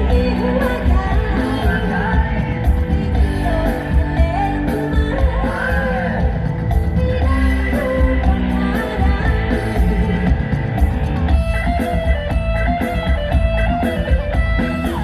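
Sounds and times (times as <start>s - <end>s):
electric guitar lines: 0.0s - 15.0s
heavy bass: 0.0s - 15.0s
steady drum beat: 0.0s - 15.0s.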